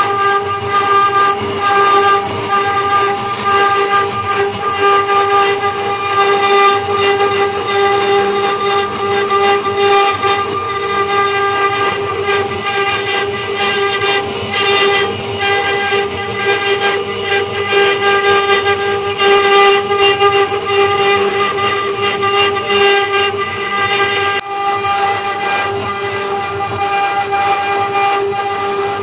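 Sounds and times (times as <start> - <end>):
bit cutting wood: 0.0 - 29.0
router spindle whining: 0.0 - 29.0.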